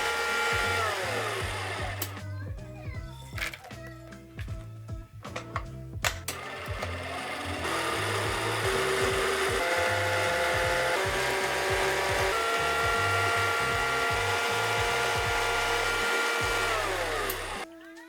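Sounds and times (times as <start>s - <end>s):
background music with steady beat: 0.0s - 18.0s.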